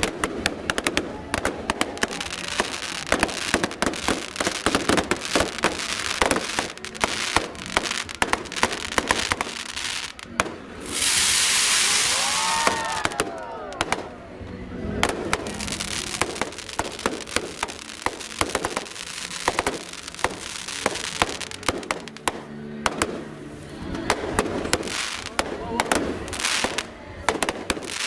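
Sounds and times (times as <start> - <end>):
fireworks cracks and bangs: 0.0 - 14.2, 14.8 - 23.3, 23.9 - 28.0
loud steady hiss: 0.0 - 14.2, 14.9 - 28.0.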